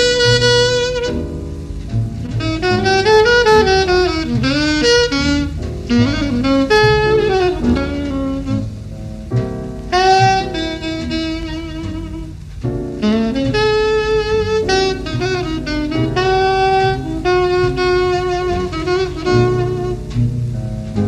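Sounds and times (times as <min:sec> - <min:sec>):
jazz saxophone melody: 0:00.0 - 0:21.0
low accompaniment: 0:00.0 - 0:21.0.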